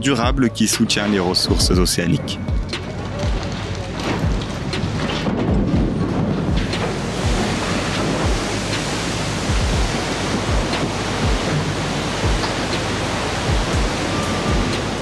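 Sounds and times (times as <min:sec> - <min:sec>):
background music with low beat: 0:00.0 - 0:15.0
water rushing and splashing: 0:01.1 - 0:15.0.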